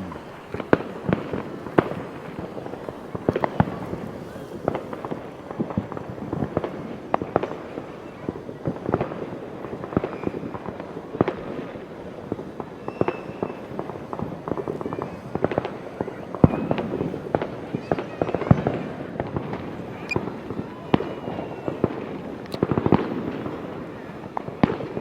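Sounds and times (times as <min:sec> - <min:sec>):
fireworks bangs and cracks: 0:00.0 - 0:25.0.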